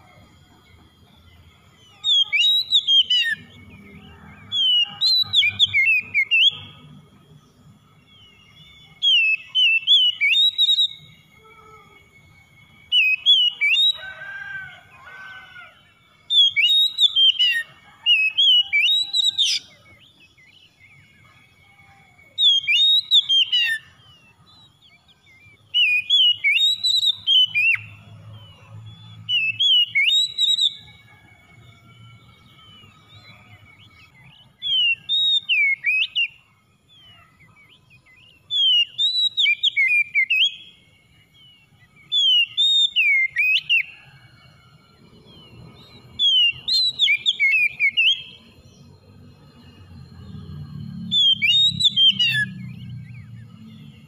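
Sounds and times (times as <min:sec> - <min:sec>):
bird whistling song: 0:00.0 - 0:15.3, 0:15.9 - 0:44.2, 0:45.1 - 0:54.0.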